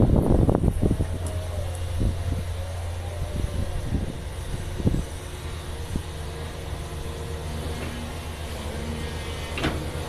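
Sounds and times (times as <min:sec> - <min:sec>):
excavator diesel engine: 0:00.0 - 0:10.0.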